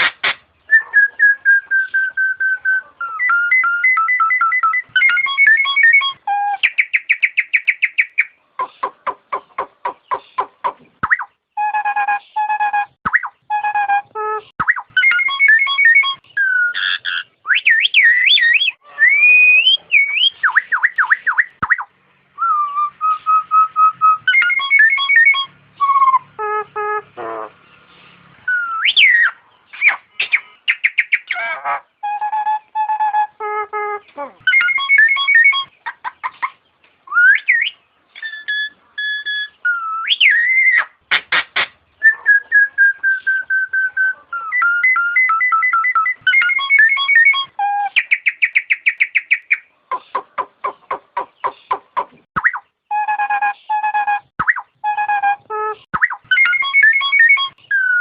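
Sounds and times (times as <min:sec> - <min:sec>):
myna calling with whistled notes: 0:00.0 - 0:58.0.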